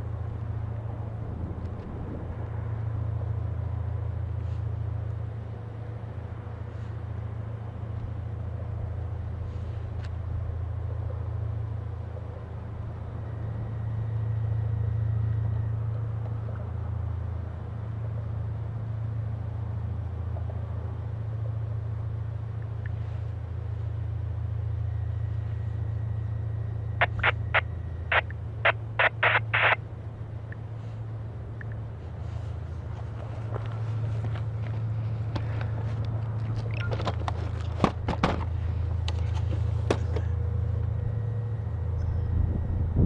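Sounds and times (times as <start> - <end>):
diesel engine low rumble: 0.0 - 43.0.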